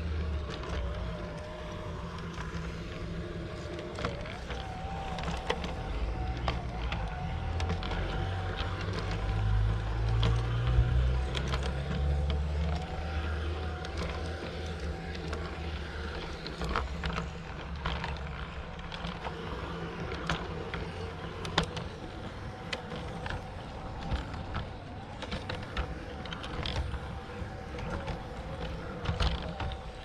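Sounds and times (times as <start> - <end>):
model train motor hum and whine: 0.0 - 30.0
wheels clicking on rails: 0.0 - 30.0.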